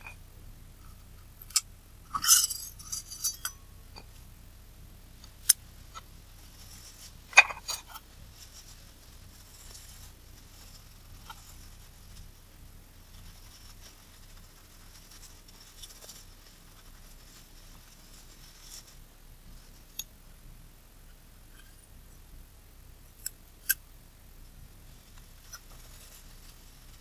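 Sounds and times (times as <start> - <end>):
rustling and scraping on a surface: 0.0 - 4.4, 5.2 - 22.2, 24.7 - 27.0.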